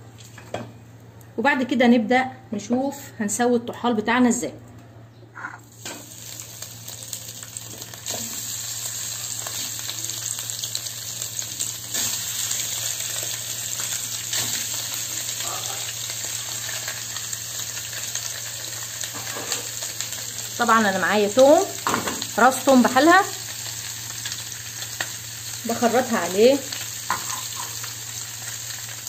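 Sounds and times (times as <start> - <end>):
meat sizzling in hot fat: 5.7 - 29.0.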